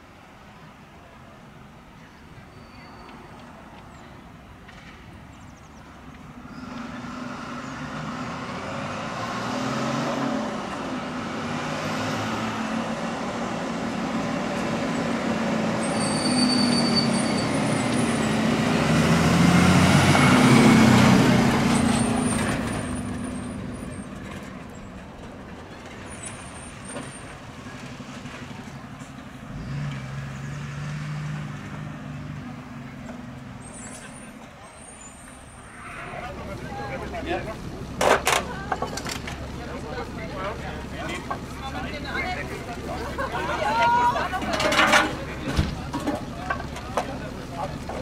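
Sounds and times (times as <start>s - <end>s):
heavy truck passing: 6.2s - 48.0s.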